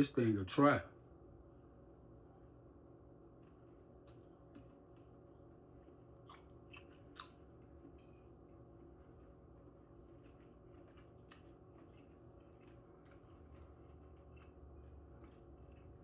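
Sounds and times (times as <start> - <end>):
low room hum: 0.0 - 16.0
faint chewing: 3.0 - 16.0.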